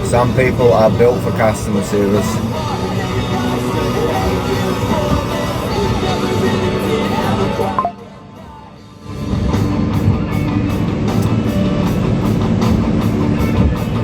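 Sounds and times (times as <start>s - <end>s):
rock music with guitar and drums: 0.0s - 14.0s.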